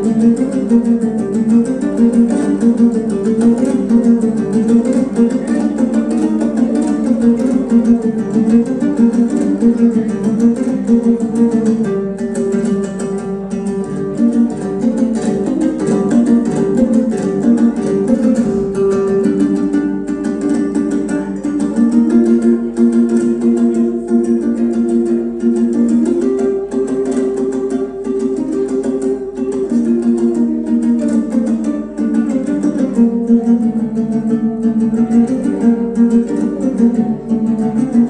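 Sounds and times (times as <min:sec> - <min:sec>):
plucked lute melody: 0:00.0 - 0:38.0.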